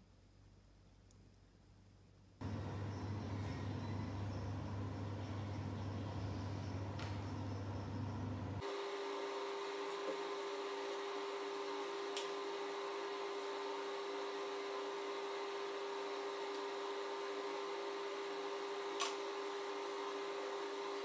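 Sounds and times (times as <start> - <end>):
steady machine hum: 2.4 - 21.0.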